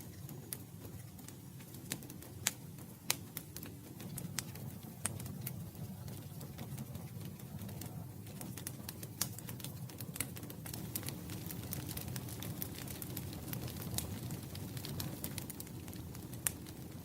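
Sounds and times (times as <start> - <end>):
low rumble of burning: 0.0 - 17.0
wood campfire crackling: 0.0 - 17.0.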